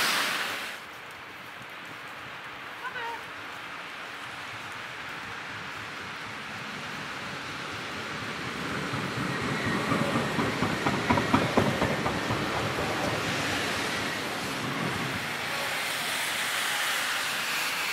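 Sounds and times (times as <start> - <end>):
sharp clicks of tram cars: 0.0 - 17.9
tram rolling past: 0.0 - 17.9.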